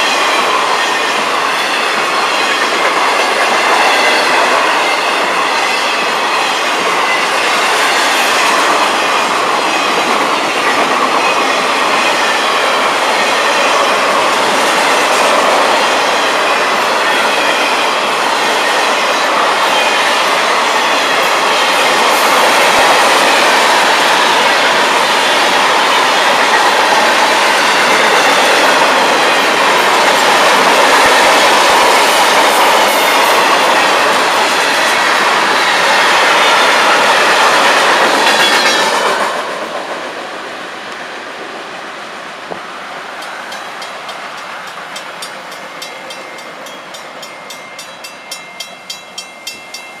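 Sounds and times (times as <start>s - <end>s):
freight train wheels on rails: 0.0s - 50.0s.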